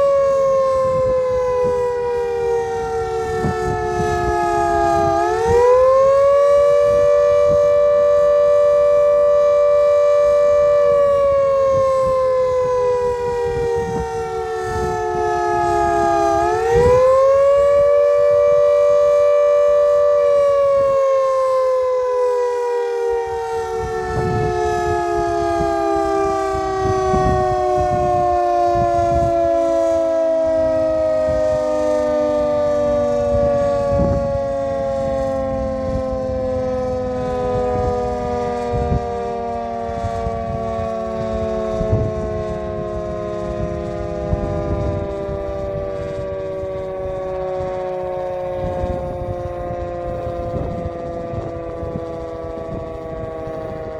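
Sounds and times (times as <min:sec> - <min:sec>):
air-raid siren wailing: 0:00.0 - 0:53.9.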